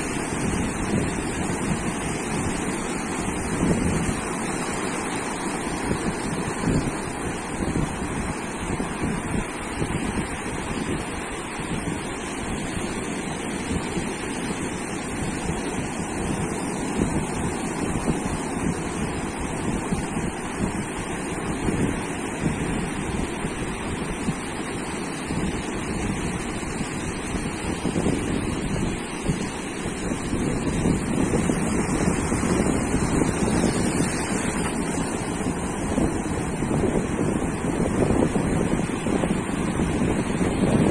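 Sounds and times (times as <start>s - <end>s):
surf washing onto a beach: 0.0s - 40.9s
wind buffeting the microphone: 0.0s - 40.9s.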